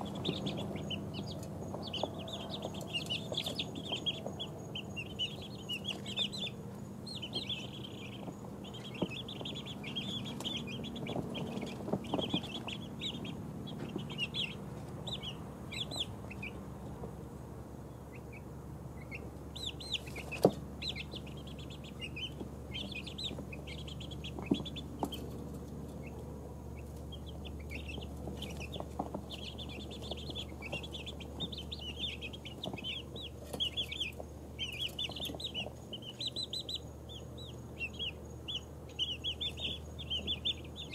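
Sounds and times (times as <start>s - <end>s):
chicks peeping: 0.0s - 40.9s
low steady hum: 0.0s - 40.9s.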